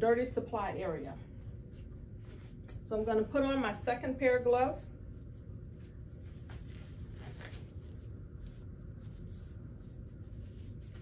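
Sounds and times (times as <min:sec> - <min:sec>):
low room hum: 0:00.0 - 0:11.0
disposable gloves rustling: 0:00.8 - 0:11.0.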